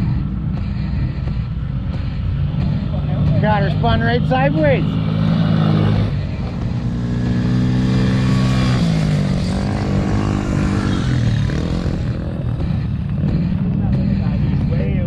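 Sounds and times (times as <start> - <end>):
atv engines racing: 0.0 - 15.0.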